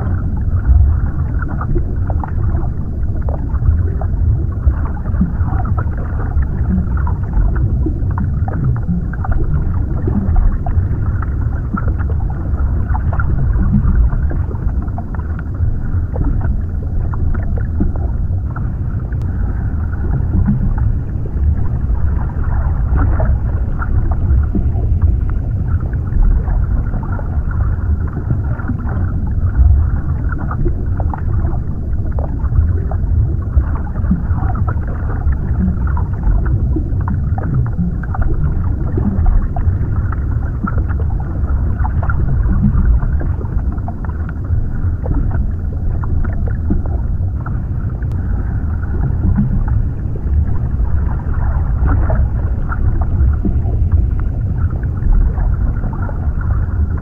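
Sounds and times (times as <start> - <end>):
muffled underwater rumble: 0.0 - 57.0.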